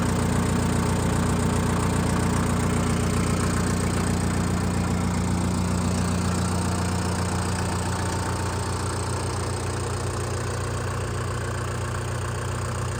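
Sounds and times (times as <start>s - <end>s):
tractor diesel engine idling: 0.0s - 12.9s.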